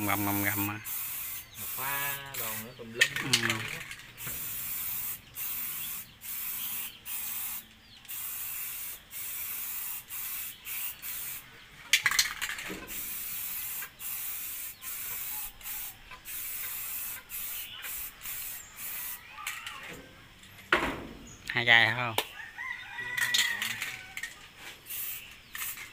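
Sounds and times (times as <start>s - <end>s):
spray-paint can hissing: 0.0s - 19.9s, 23.5s - 25.9s.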